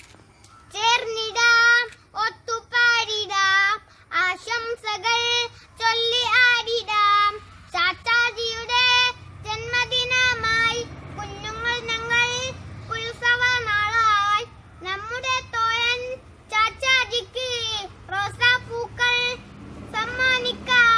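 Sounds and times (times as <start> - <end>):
young boy singing: 0.6 - 20.9.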